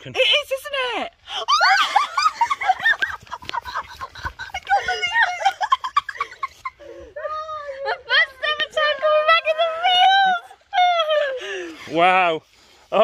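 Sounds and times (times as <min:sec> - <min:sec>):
women squealing and laughing: 0:01.3 - 0:11.8.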